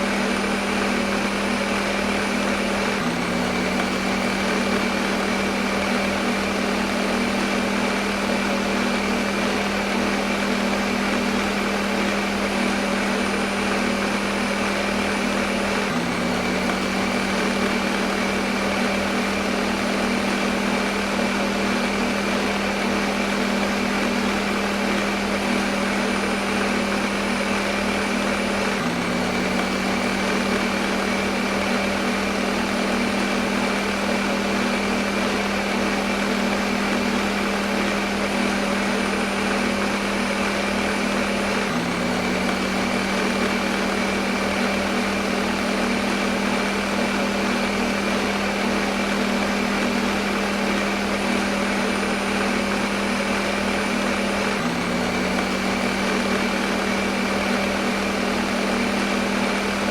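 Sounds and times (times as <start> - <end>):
blender motor running: 0.0 - 59.9.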